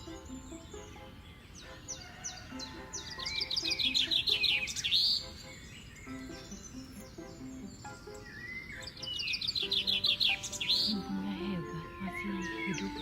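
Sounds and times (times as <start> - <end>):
small songbird chirping: 0.0 - 13.0
soft background music: 0.0 - 13.0.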